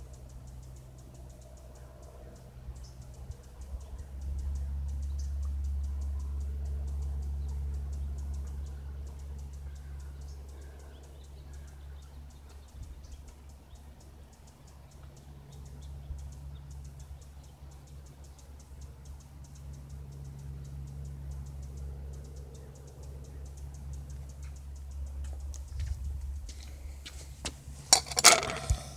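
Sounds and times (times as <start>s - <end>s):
distant light aircraft drone: 0.0s - 28.9s
fast faint ticking: 0.0s - 28.9s.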